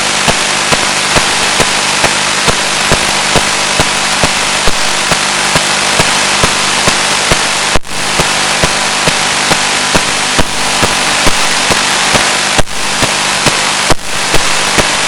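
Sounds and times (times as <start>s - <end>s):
low hum: 0.0s - 15.0s
radio static hiss: 0.0s - 15.0s.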